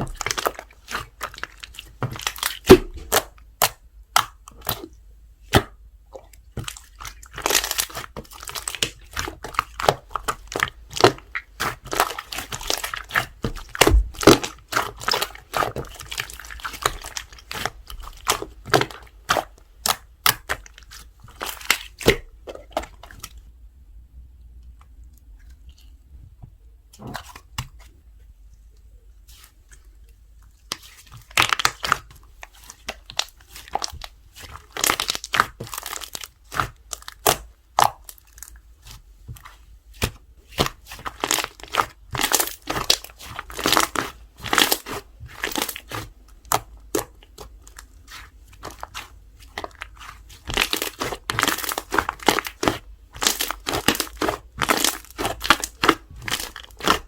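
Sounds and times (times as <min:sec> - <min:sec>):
slime squished by hand: 0:00.0 - 0:23.4, 0:30.6 - 0:57.0.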